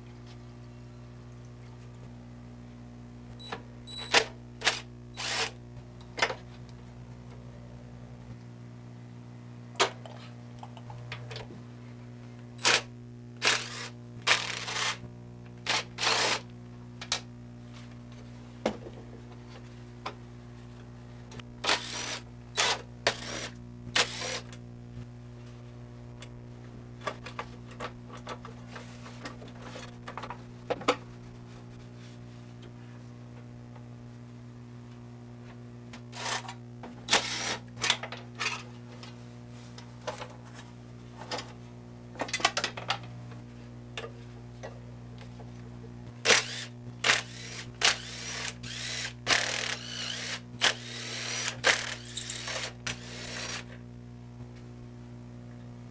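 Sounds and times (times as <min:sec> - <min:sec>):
low electrical hum: 0:00.0 - 0:55.9.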